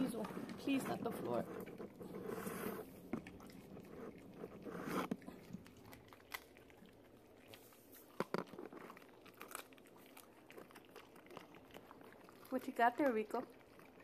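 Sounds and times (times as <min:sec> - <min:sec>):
dog crunching bones: 0:00.0 - 0:14.0.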